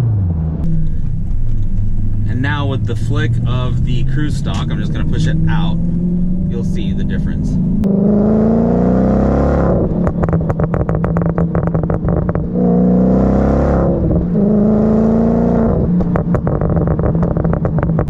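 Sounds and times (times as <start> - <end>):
car engine revving: 0.0 - 18.0
exhaust pops and crackles: 0.6 - 7.9, 9.7 - 14.6, 15.4 - 18.0.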